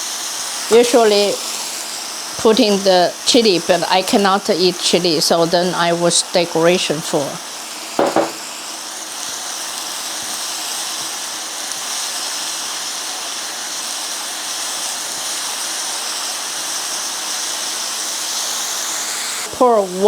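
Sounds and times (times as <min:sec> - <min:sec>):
oil sizzling in a pan: 0:00.0 - 0:20.0.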